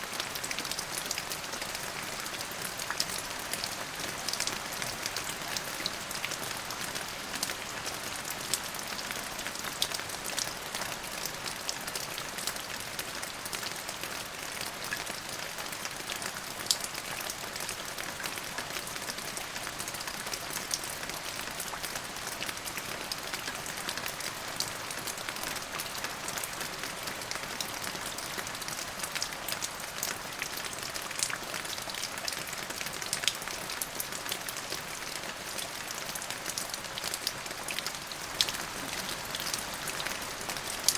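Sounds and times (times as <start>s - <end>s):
steady rain pattering: 0.0s - 40.9s.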